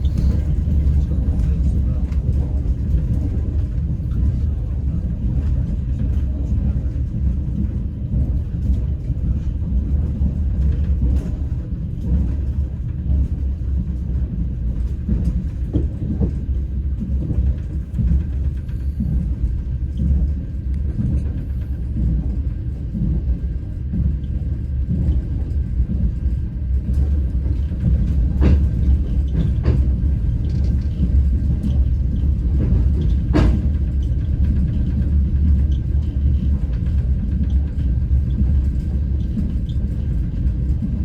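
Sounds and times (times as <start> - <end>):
train rumbling inside carriage: 0.0 - 41.0
wheels clicking on track: 0.0 - 41.0.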